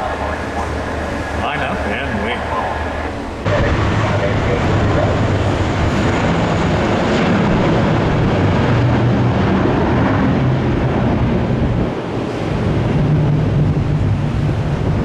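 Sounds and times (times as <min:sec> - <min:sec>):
jet engines roaring: 0:00.0 - 0:15.0
wind on microphone: 0:00.0 - 0:15.0.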